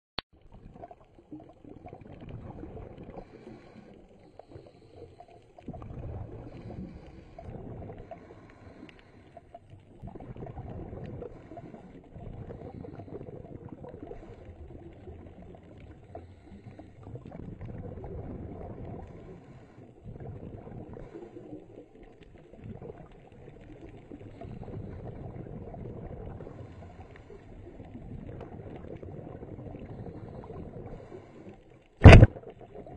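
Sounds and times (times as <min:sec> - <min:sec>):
underwater rumble of moving water: 0:00.4 - 0:32.9.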